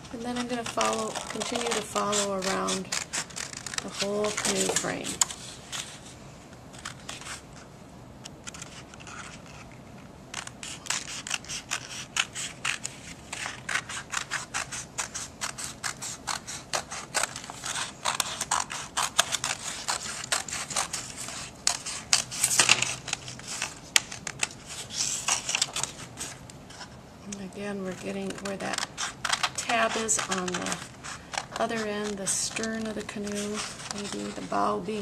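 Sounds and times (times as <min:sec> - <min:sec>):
scissors snipping paper: 0:00.2 - 0:05.9, 0:10.4 - 0:26.4, 0:27.3 - 0:35.0.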